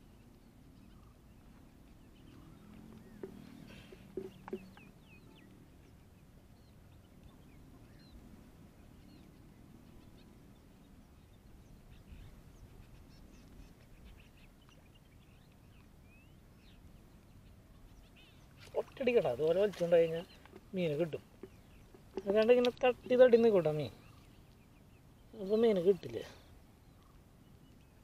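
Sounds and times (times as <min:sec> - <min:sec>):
bird calls and chirps: 0:00.0 - 0:28.0.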